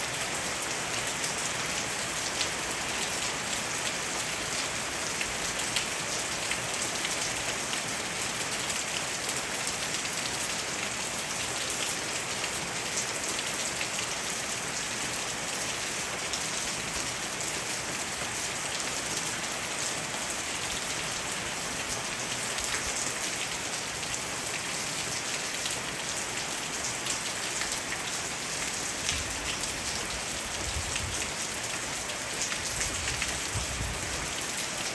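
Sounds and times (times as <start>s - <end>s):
rain on a roof and leaves: 0.0s - 34.9s.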